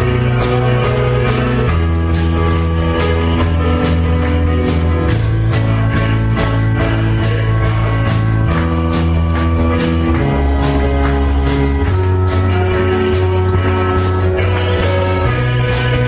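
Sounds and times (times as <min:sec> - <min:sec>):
bass: 0:00.0 - 0:16.0
drum kit: 0:00.0 - 0:16.0
electric guitar: 0:00.0 - 0:16.0.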